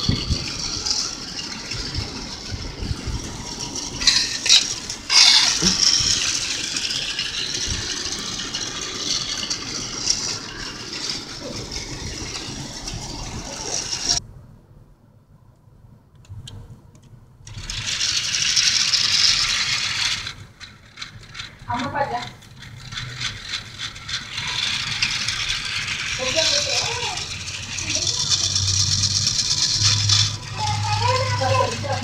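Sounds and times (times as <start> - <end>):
toy train rattling on track: 0.0 - 14.2, 17.4 - 32.0.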